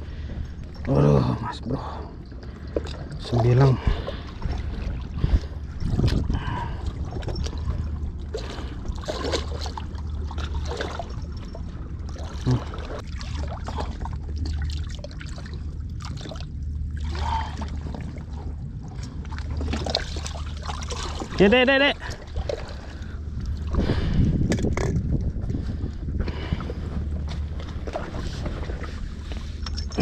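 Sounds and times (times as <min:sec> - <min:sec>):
steady low hum: 0:00.0 - 0:30.0
seawater washing among rocks: 0:03.2 - 0:30.0.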